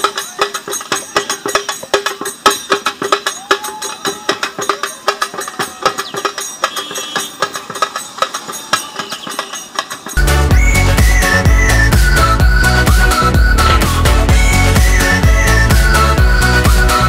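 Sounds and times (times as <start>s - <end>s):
barrel drums beating fast rhythm: 0.0s - 17.0s.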